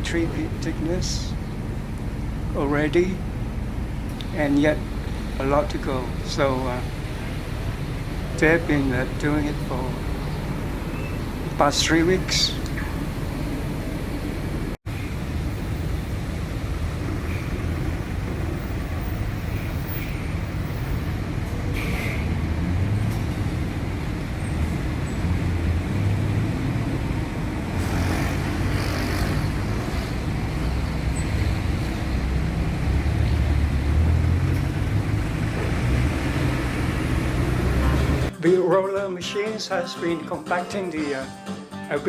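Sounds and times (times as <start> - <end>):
construction machinery diesel engines: 0.0 - 38.3
passing road traffic: 0.0 - 38.4.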